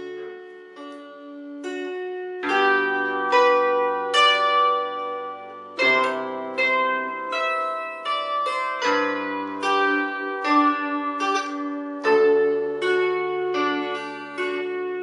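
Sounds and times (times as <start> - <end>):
bandura plucked melody: 0.0 - 15.0.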